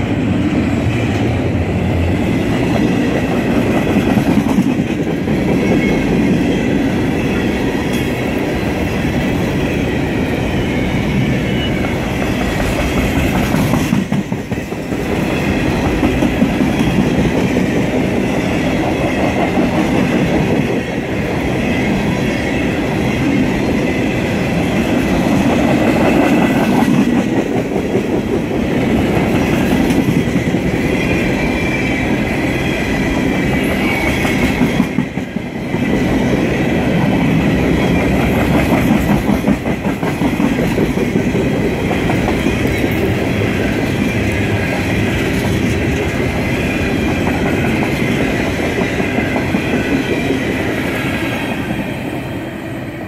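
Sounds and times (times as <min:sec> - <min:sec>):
freight train wheels on rails: 0:00.0 - 0:53.0.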